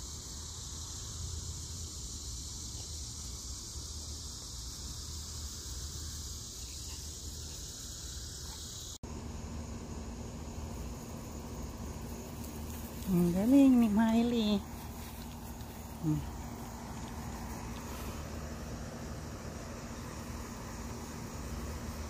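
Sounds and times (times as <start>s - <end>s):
high-pitched insect chorus: 0.0s - 22.0s
low steady hum: 0.0s - 22.0s.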